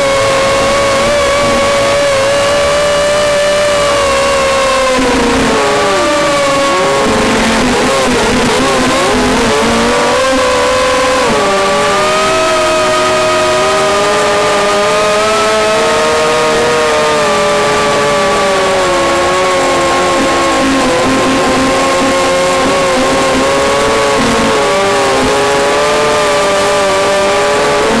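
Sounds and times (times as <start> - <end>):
model plane motor whine: 0.0 - 28.0.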